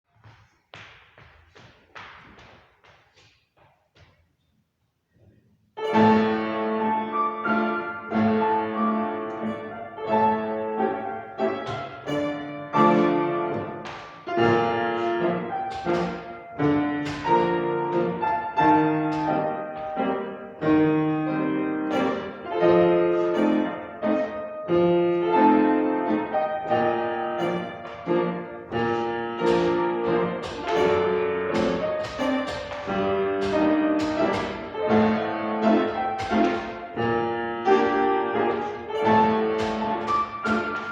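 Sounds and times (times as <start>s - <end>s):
solo piano accented chords: 5.8s - 40.9s.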